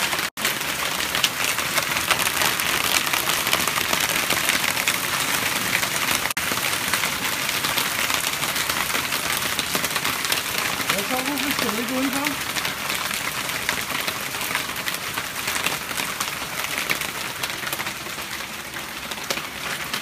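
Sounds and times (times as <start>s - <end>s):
hail clattering on paving: 0.0s - 20.0s.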